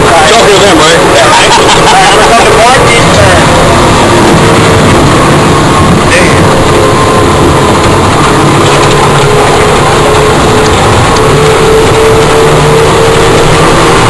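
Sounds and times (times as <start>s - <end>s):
boat engine drone: 0.0s - 14.0s
water rushing: 0.0s - 14.0s.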